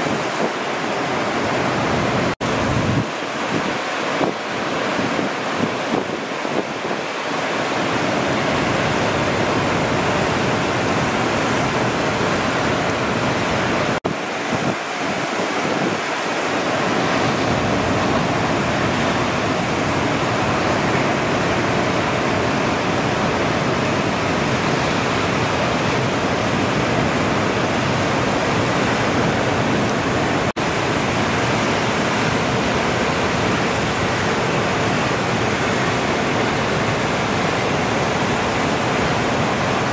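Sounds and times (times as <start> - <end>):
ocean surf: 0.0 - 39.9
wind: 0.0 - 39.9.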